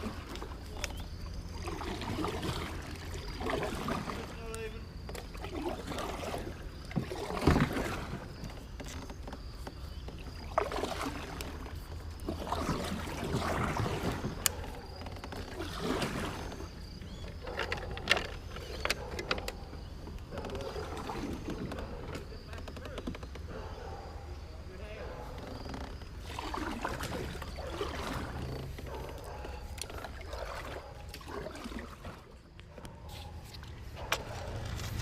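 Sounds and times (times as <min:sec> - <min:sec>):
paddle strokes splashing in water: 0:00.0 - 0:24.0, 0:24.7 - 0:35.0.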